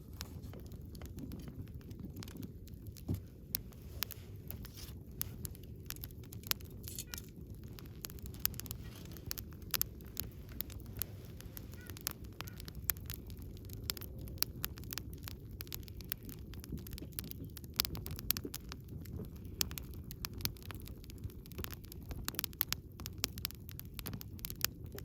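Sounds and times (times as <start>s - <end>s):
bonfire crackling and popping: 0.0s - 25.0s
low rumble of flames: 0.0s - 25.0s.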